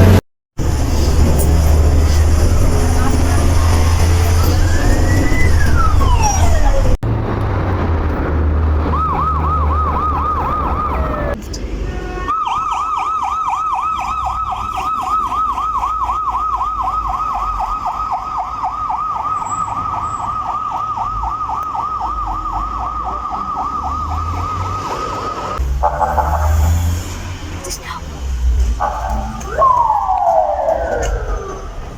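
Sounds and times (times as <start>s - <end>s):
low vehicle rumble: 0.0s - 31.9s
ambulance siren yelping: 1.3s - 7.0s, 8.7s - 11.4s, 12.2s - 26.8s, 28.8s - 31.9s.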